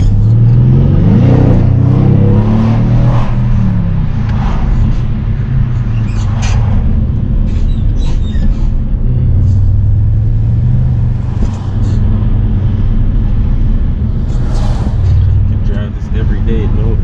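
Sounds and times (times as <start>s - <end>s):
car engine low hum: 0.0s - 17.0s
road noise: 0.0s - 17.0s.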